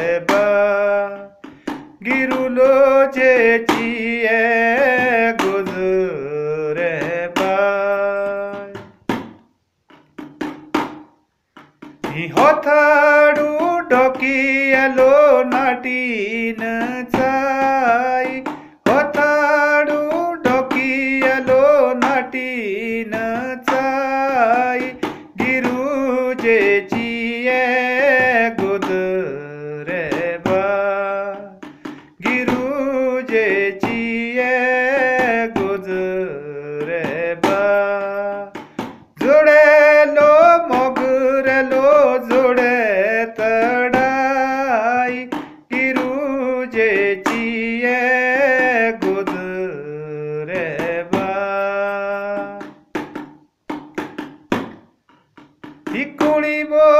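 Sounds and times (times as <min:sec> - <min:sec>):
man singing: 0:00.0 - 0:09.0, 0:12.0 - 0:53.0, 0:55.8 - 0:56.9
percussion beat: 0:00.0 - 0:56.9.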